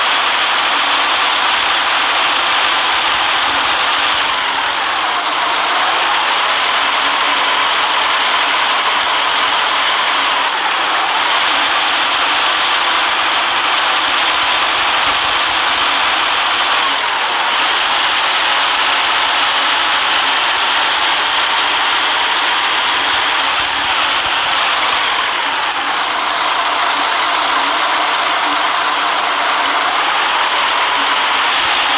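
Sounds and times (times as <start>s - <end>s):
bus engine running: 0.0s - 31.9s
continuous hiss: 0.0s - 31.9s.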